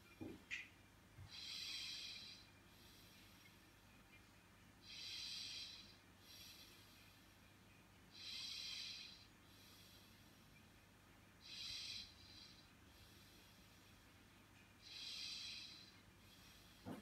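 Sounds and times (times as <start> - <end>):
slow breathing: 1.2 - 17.0.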